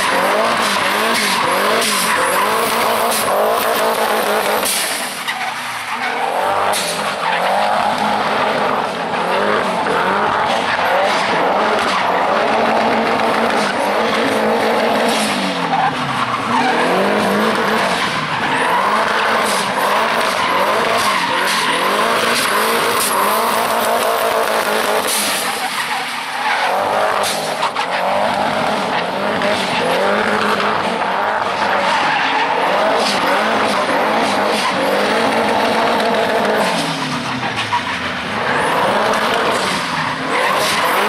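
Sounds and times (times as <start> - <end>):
car engine revving: 0.0 - 41.0
tyres squealing on tarmac: 0.0 - 41.0.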